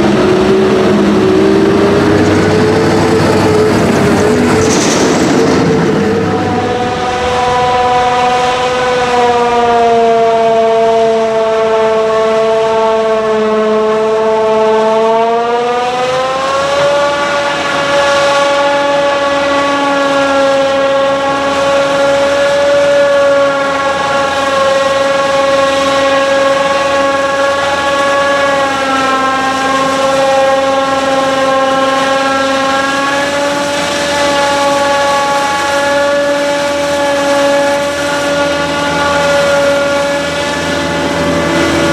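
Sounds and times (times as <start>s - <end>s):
heavy diesel machinery droning: 0.0s - 41.9s.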